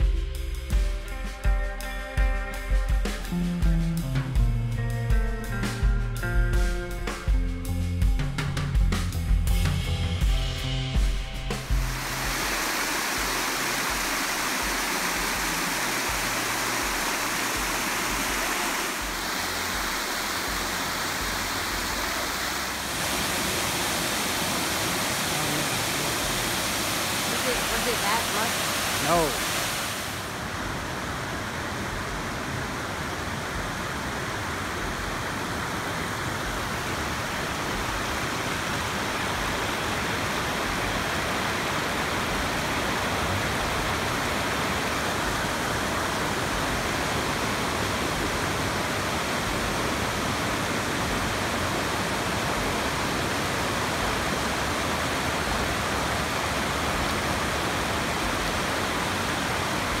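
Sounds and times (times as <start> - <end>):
creek water rushing over rocks: 11.6 - 60.0.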